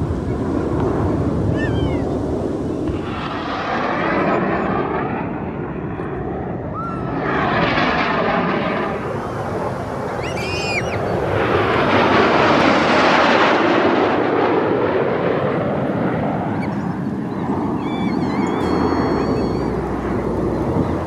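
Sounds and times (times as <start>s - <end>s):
jet aircraft flying past: 0.0s - 21.0s.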